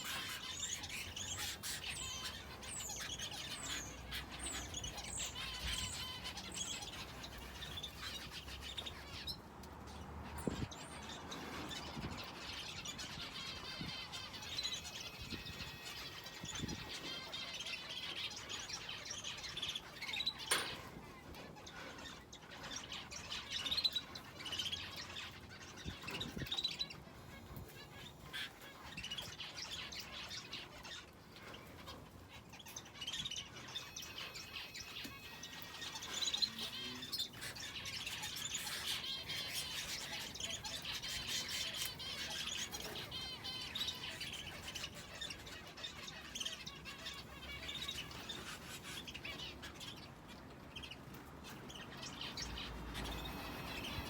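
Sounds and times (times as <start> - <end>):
finches and canary chirping: 0.0 - 54.0.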